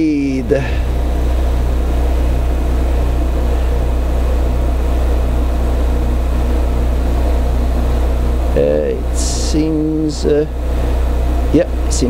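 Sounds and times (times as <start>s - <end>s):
metal lathe motor hum: 0.0s - 12.0s.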